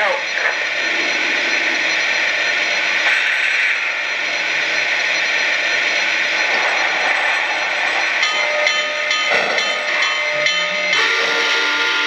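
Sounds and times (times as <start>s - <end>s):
steam engine sound effects: 0.0s - 12.0s.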